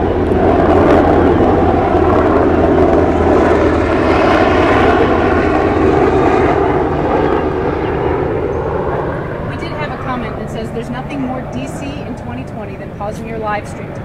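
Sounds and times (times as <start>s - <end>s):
helicopter passing over: 0.0s - 14.0s.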